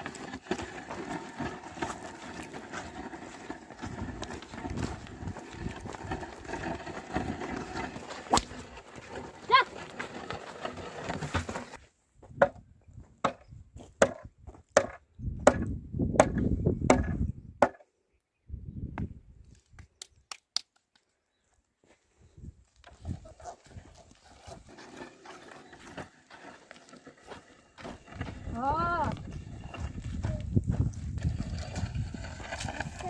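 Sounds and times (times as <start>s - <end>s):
outdoor ambience: 0.0s - 33.0s.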